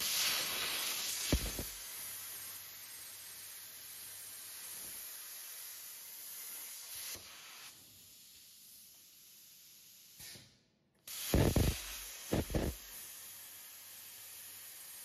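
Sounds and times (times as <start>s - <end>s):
plasma torch hissing: 0.0s - 10.5s, 11.1s - 15.0s.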